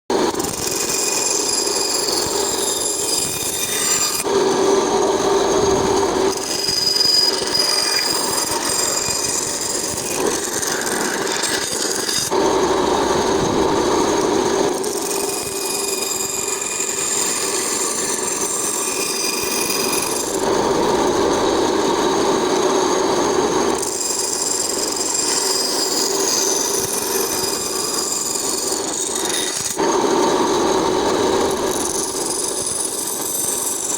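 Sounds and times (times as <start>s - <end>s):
band saw cutting wood: 0.1s - 33.9s.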